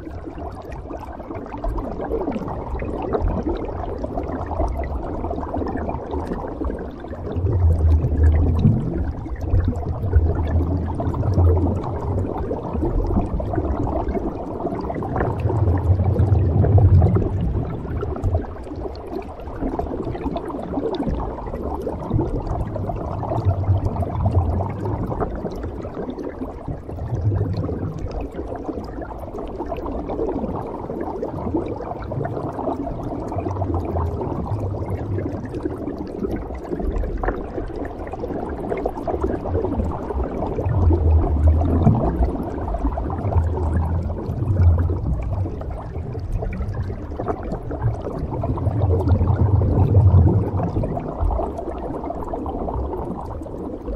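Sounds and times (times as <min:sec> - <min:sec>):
exhaled bubbles underwater: 0:00.0 - 0:53.9.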